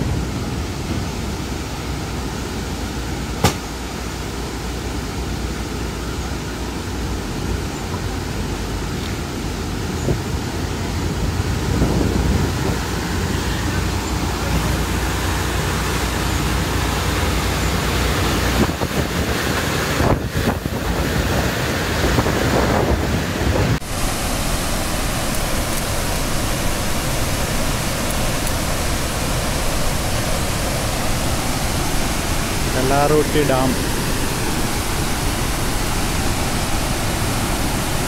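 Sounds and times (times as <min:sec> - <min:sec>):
floodwater pouring through spillway: 0:00.0 - 0:23.2, 0:23.8 - 0:38.0
waterfall rushing: 0:00.0 - 0:38.0.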